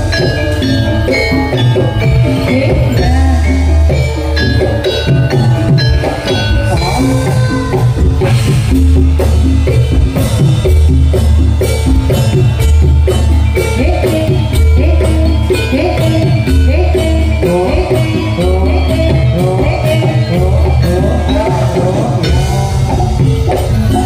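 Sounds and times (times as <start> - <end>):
drums beating: 0.0 - 24.0
repeating melodic pitched notes: 0.0 - 24.0.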